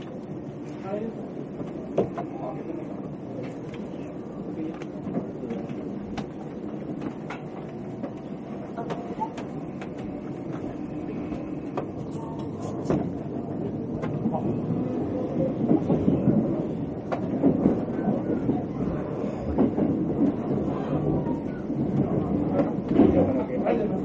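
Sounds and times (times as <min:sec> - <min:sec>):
train rumble inside passenger car: 0:00.0 - 0:24.0.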